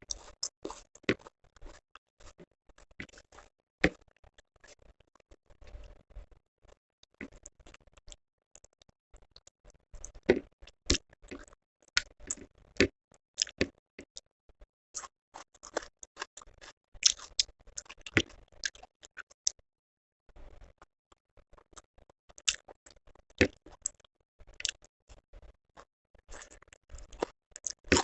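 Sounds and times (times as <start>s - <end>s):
close chewing and mouth sounds: 0.0s - 19.6s, 20.3s - 28.0s.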